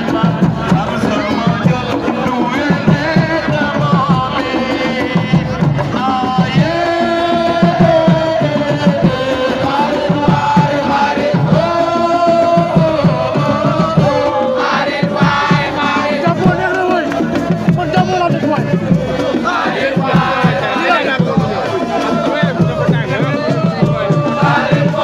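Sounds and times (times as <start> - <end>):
crowd singing a chant: 0.0 - 25.0
drumming: 0.0 - 25.0.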